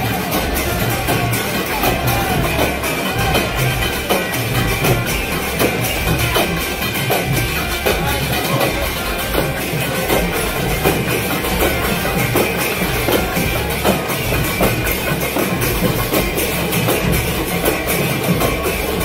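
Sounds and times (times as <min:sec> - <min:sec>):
drums and hand cymbals: 0:00.0 - 0:19.0.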